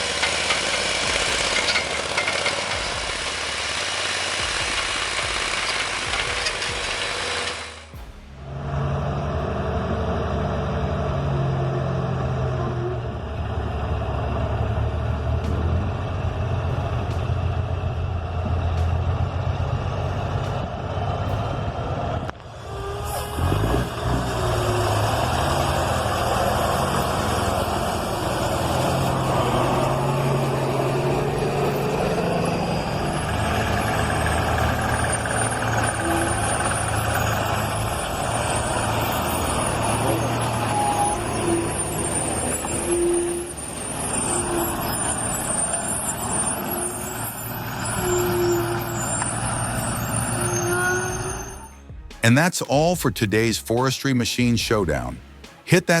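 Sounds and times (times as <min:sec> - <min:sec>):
heavy machinery engine running: 0:00.0 - 0:52.2.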